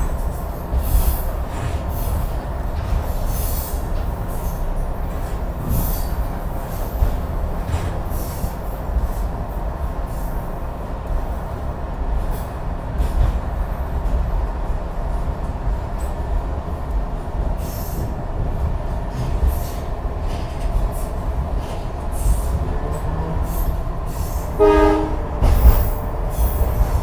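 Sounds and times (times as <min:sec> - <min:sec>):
wheels rumbling on rails: 0:00.0 - 0:27.0.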